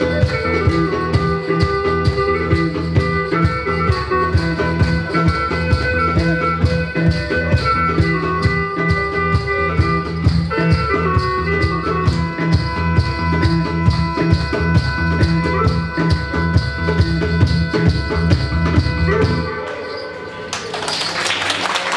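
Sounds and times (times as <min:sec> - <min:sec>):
electric bass: 0:00.0 - 0:19.5
wind instrument melody: 0:00.0 - 0:20.6.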